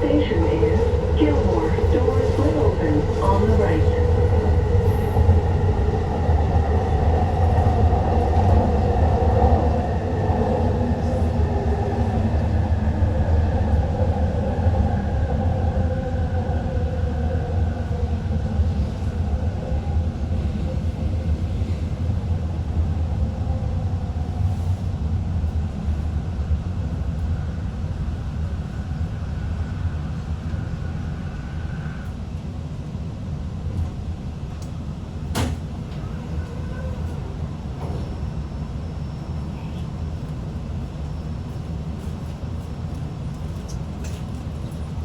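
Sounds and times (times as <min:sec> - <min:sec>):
train rumble inside car: 0:00.0 - 0:45.0.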